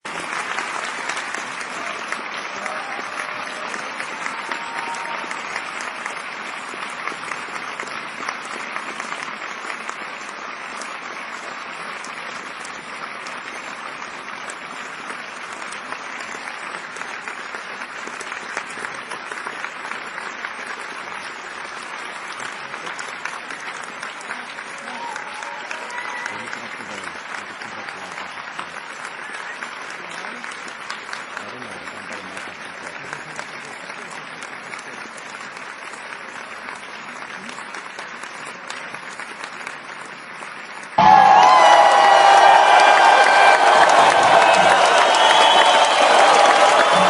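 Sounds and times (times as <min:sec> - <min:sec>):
audience applauding and cheering: 0:00.0 - 0:47.0.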